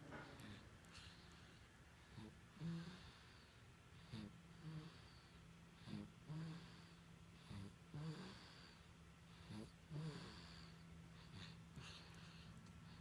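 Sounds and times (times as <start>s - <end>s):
baby snoring softly: 0.0s - 13.0s.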